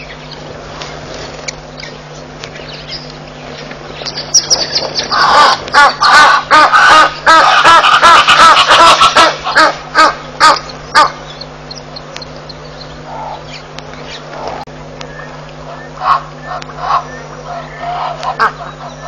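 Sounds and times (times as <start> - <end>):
eagle calling: 0.0 - 19.0.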